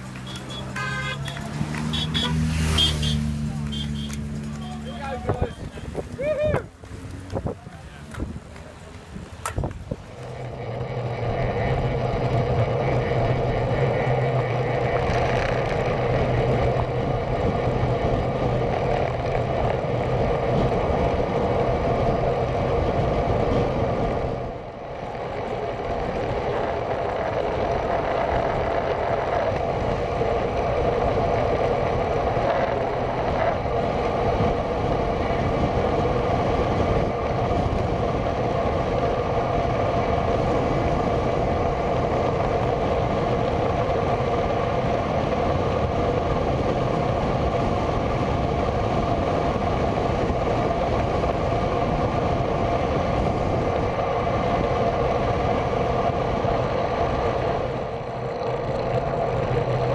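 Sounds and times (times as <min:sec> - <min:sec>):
bicycle tyre noise: 0:00.0 - 0:59.9.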